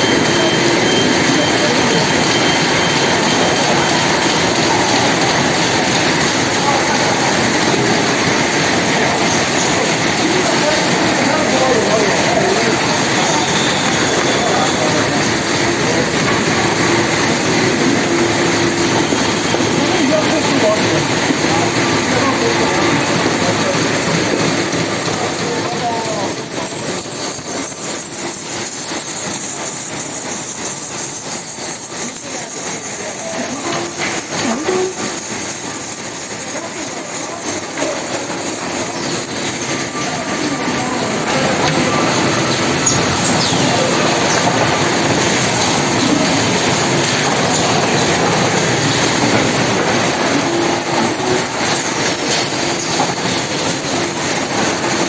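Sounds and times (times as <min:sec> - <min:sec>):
packaging machinery clattering: 0:00.0 - 0:55.0.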